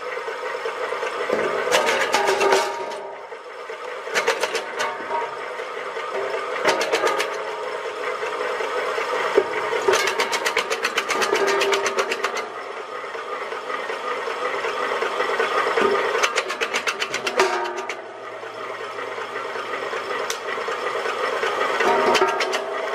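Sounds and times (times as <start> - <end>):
machine running steadily: 0.0 - 22.9.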